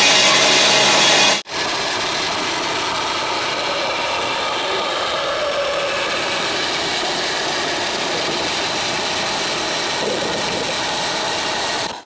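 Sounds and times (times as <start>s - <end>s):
metal saw cutting pipe: 0.0s - 12.0s.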